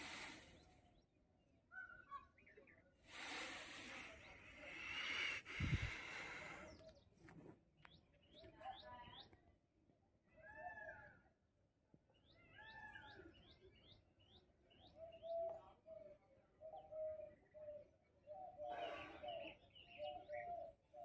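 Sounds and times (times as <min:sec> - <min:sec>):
faint birdsong: 0:00.0 - 0:21.0.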